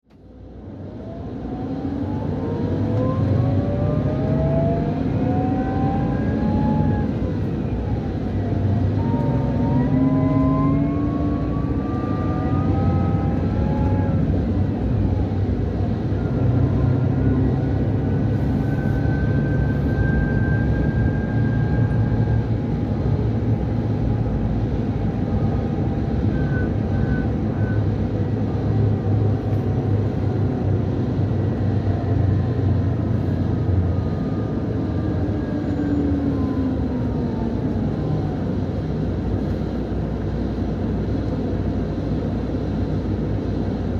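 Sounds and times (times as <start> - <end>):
bus diesel engine accelerating: 0.1 - 43.9.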